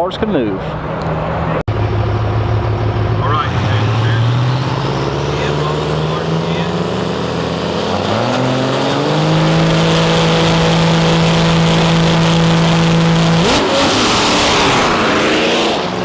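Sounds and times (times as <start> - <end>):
drag racing engine at full throttle: 0.0 - 16.0.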